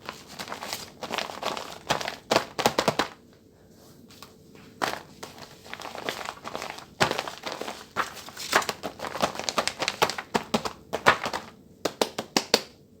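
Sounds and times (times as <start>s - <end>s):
paper crinkling and crackling: 0.0s - 3.2s, 4.1s - 12.6s.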